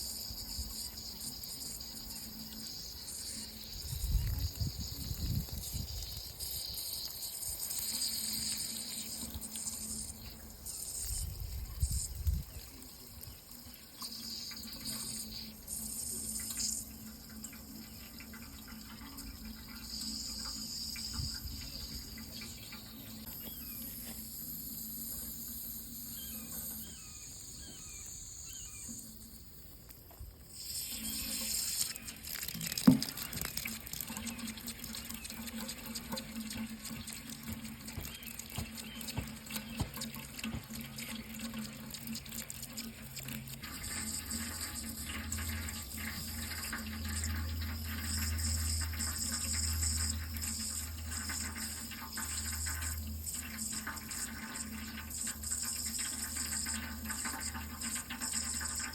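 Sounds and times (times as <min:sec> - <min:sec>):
tap water running into sink: 0:00.0 - 0:24.4, 0:30.1 - 0:58.9.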